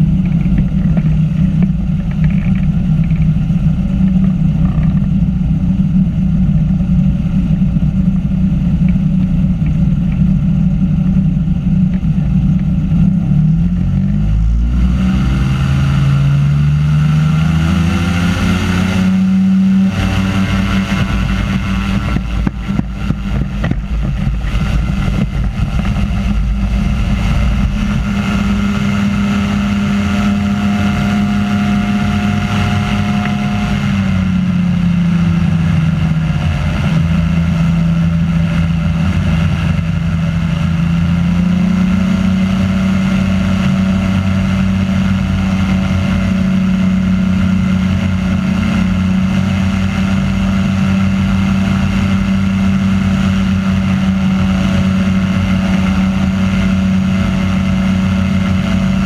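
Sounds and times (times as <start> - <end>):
microlight engine and propeller drone: 0.0 - 59.0.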